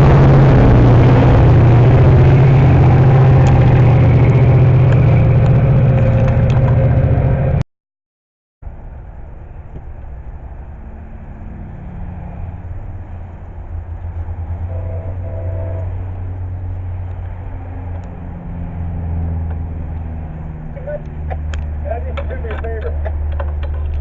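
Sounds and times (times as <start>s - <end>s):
diesel train rumble: 0.0s - 7.6s, 8.7s - 24.0s.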